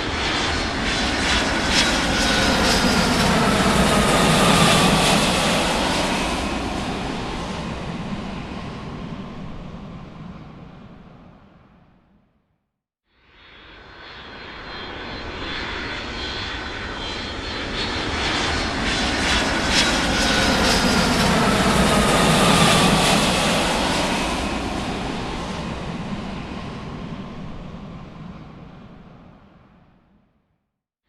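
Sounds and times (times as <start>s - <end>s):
aircraft engine flyby: 0.0s - 12.2s, 13.3s - 30.2s.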